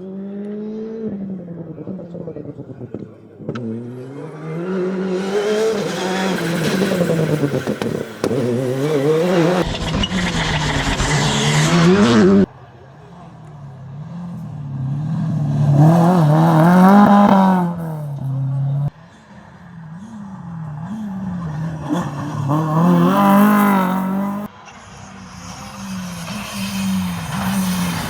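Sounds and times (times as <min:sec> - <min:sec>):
rally car engine revving: 0:00.0 - 0:28.0
second rally car engine: 0:00.0 - 0:28.0.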